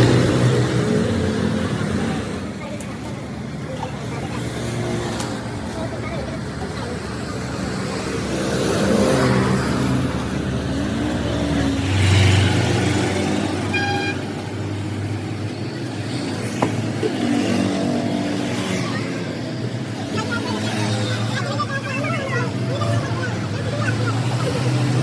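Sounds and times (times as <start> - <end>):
motor vehicle engines passing: 0.0 - 25.0.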